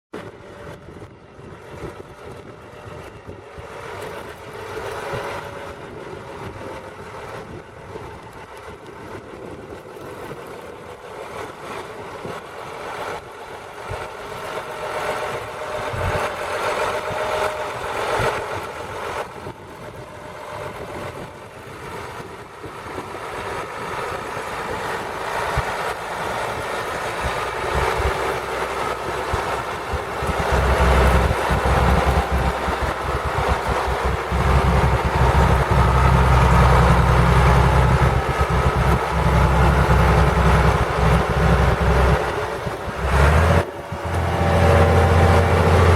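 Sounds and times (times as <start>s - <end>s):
tractor diesel engine running: 0.2s - 45.9s.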